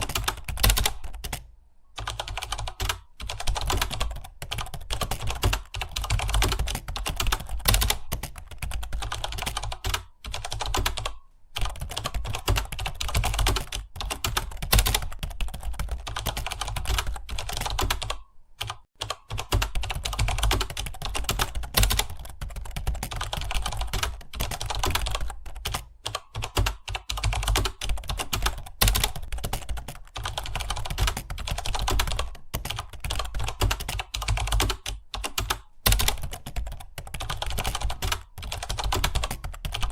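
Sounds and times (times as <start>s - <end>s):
rapid keyboard typing: 0.0s - 39.9s.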